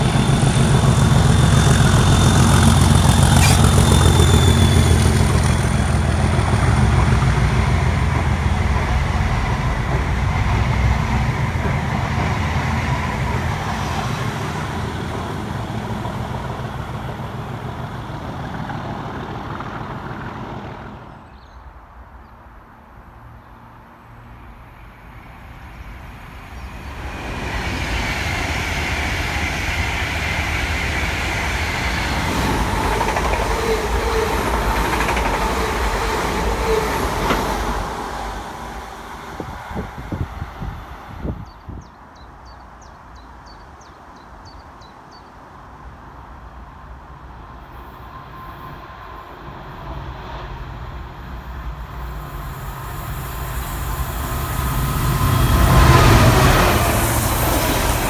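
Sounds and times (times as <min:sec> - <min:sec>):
train wheels rumbling on rails: 0:00.0 - 0:21.4, 0:24.4 - 0:42.0, 0:47.4 - 0:58.0
passing train whine: 0:00.0 - 0:58.0.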